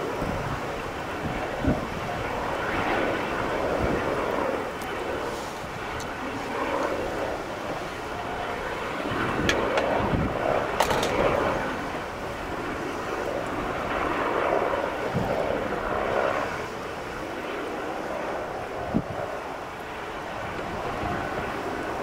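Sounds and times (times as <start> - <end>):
wind noise on microphone: 0.0 - 19.5, 20.2 - 22.0
helicopter hovering: 0.0 - 22.0.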